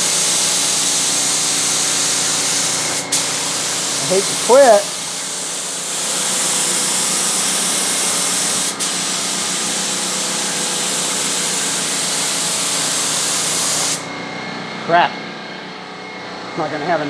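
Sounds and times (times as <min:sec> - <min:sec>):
spray hissing: 0:00.0 - 0:14.1.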